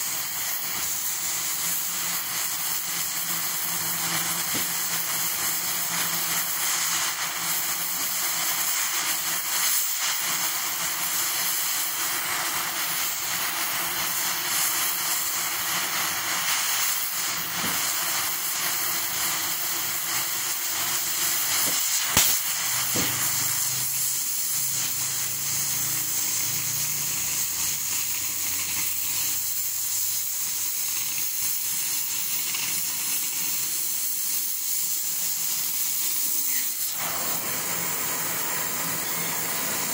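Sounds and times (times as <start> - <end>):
cutting torch flame hissing: 0.0 - 39.9.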